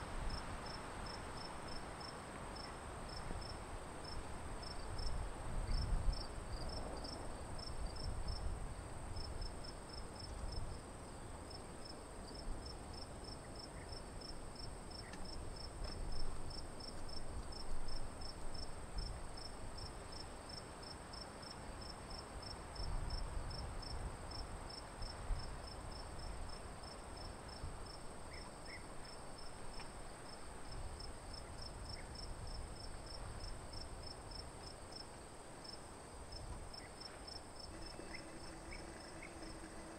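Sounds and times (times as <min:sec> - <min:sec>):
crickets chirping: 0:00.2 - 0:39.9.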